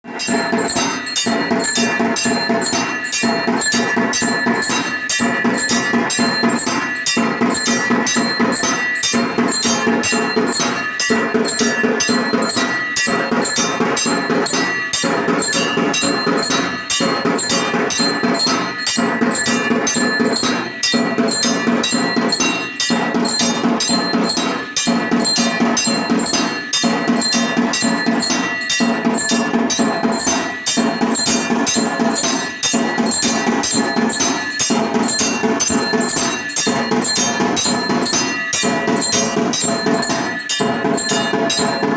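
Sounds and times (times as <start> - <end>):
continuous ringing bells: 0.0 - 41.9
rapid drum strokes: 0.0 - 41.9.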